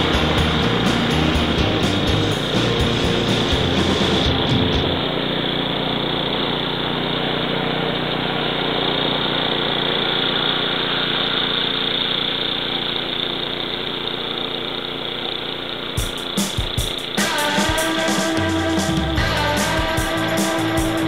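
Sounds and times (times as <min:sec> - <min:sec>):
snowblower engine running: 0:00.0 - 0:21.0.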